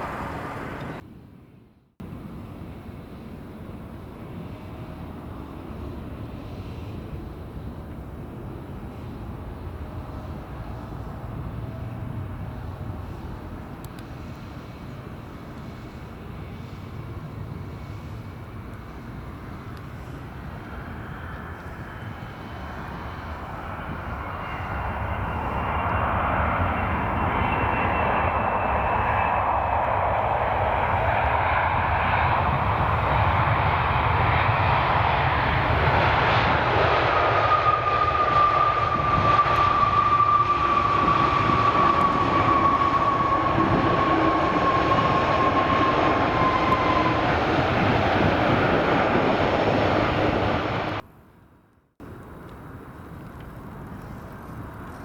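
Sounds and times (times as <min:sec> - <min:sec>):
jet aircraft engine noise: 0:00.0 - 0:51.3, 0:52.0 - 0:55.0.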